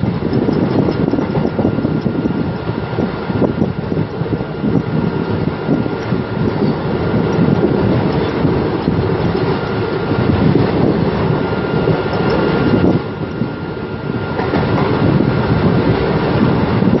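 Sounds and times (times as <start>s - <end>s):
train wheels rumbling on rails: 0.0s - 17.0s
wind noise: 0.0s - 17.0s.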